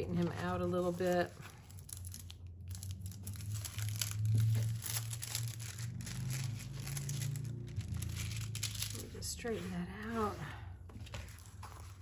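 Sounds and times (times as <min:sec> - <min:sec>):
plastic film crinkling: 0:00.0 - 0:10.4, 0:11.0 - 0:12.0
low steady hum: 0:00.0 - 0:12.0.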